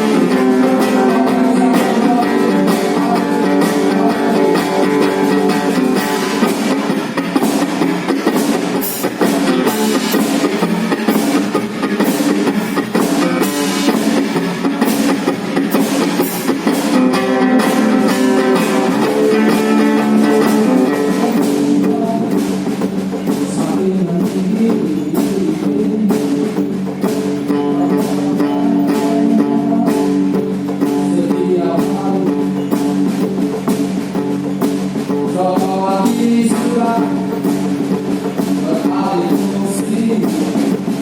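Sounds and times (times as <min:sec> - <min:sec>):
drums and percussion: 0:00.0 - 0:41.0
guitar: 0:00.0 - 0:41.0
live band playing: 0:00.0 - 0:41.0.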